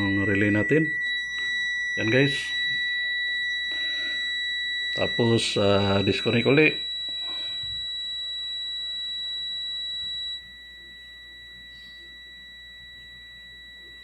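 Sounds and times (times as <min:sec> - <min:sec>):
fainter lower electronic tone: 0:00.0 - 0:14.0
high-pitched electronic tone: 0:00.0 - 0:14.0.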